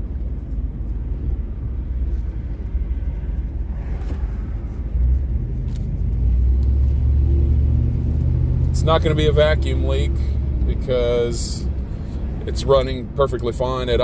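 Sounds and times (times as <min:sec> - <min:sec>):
pickup truck engine: 0:00.0 - 0:14.0
road rumble inside a cab: 0:00.0 - 0:14.0.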